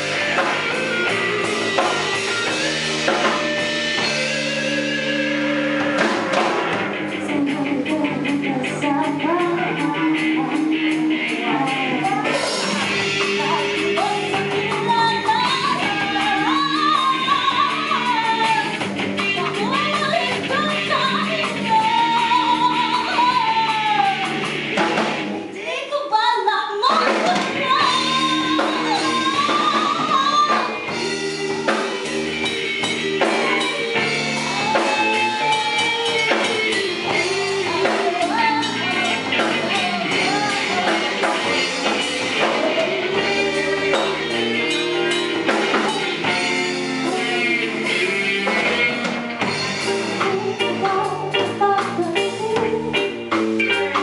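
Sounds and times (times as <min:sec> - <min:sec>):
drum kit: 0:00.0 - 0:25.6, 0:26.8 - 0:54.0
bass guitar: 0:00.0 - 0:25.8, 0:26.8 - 0:54.0
electric guitars: 0:00.0 - 0:26.0, 0:26.8 - 0:54.0
woman singing into microphone: 0:07.1 - 0:24.5, 0:25.5 - 0:49.1, 0:50.0 - 0:54.0.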